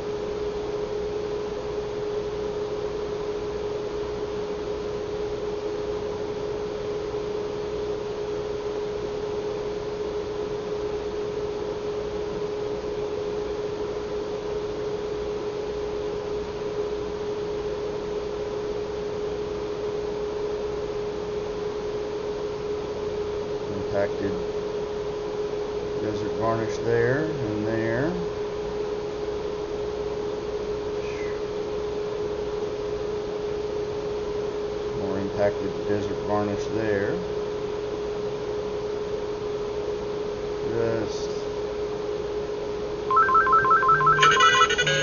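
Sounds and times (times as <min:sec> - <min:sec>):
electrical hum: 0:00.0 - 0:45.0.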